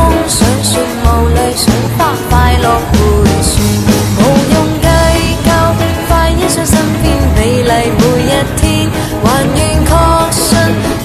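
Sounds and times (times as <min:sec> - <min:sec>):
pop song with singing and drums: 0:00.0 - 0:11.0.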